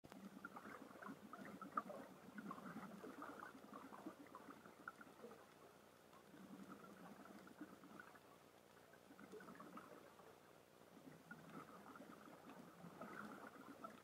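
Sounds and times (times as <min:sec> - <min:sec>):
underwater bubbles gurgling: 0:00.1 - 0:14.0.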